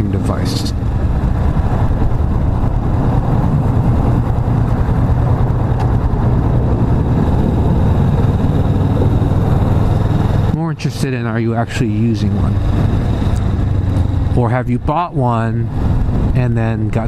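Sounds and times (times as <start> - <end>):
motorcycle engine rumbling: 0.0 - 17.0
road noise: 0.0 - 17.0.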